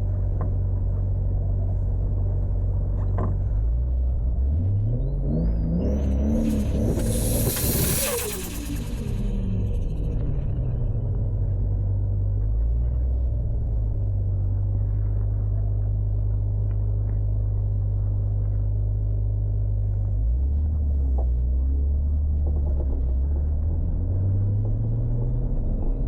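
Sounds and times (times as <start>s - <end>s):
car engine droning at low revs: 0.0s - 26.0s.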